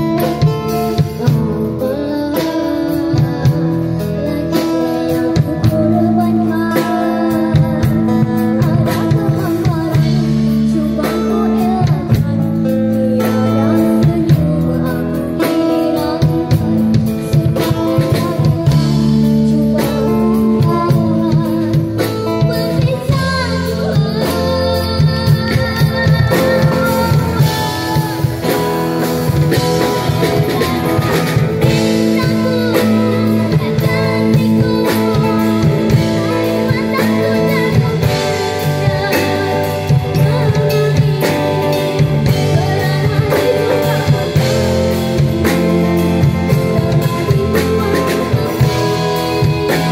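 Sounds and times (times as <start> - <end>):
acoustic guitar: 0.0 - 49.9
drum kit: 0.0 - 49.9
girl singing through microphone: 0.0 - 49.9.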